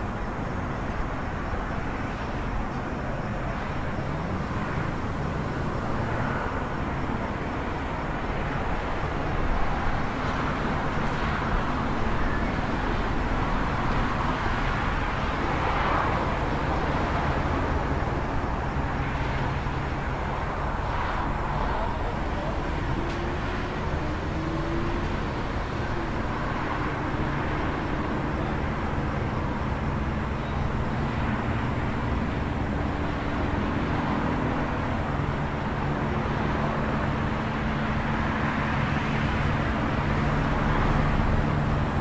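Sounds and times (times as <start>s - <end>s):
low engine rumble: 0.0s - 42.0s
vehicles passing: 0.0s - 42.0s.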